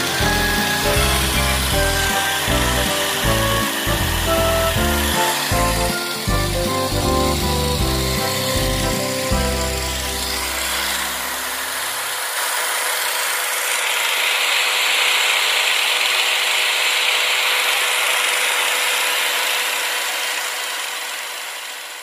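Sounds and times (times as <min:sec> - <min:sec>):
electric drill spinning: 0:00.0 - 0:22.0.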